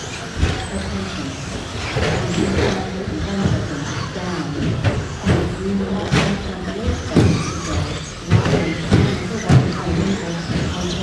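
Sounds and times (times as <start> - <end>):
rc truck motors running: 0.0 - 11.0.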